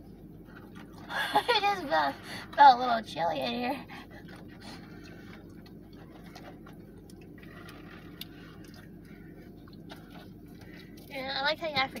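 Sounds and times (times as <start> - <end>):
car air conditioning hum: 0.0 - 12.0.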